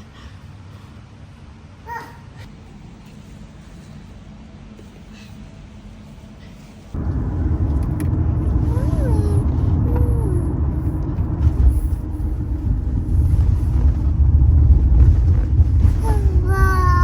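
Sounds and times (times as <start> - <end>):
vehicle rumble: 2.4 - 17.0.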